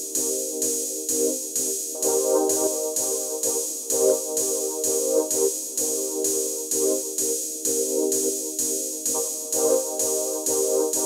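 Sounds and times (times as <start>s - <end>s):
electronic music with synth chord: 0.0s - 11.0s.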